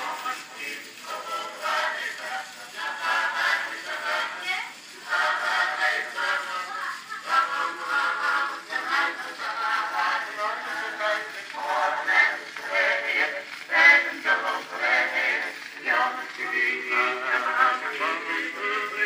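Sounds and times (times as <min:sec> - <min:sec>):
tinny phonograph song: 0:00.0 - 0:19.0.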